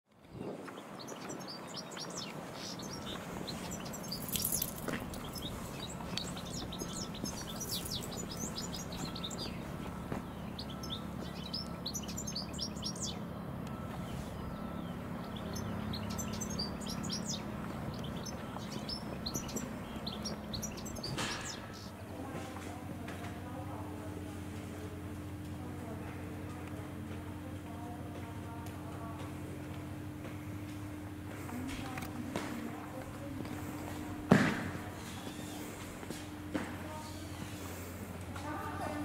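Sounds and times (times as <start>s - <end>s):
small birds chirping: 0.1s - 24.2s, 25.7s - 39.0s
steady low hum: 0.1s - 39.0s.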